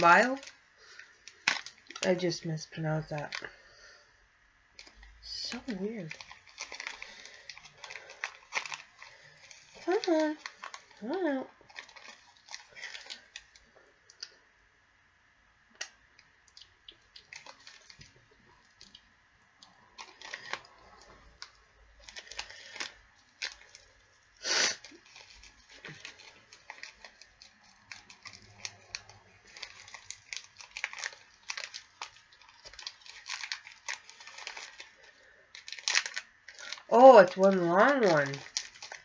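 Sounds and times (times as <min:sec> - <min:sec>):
plastic wrapper crinkling: 0:00.0 - 0:03.8, 0:04.7 - 0:14.4, 0:15.8 - 0:39.0.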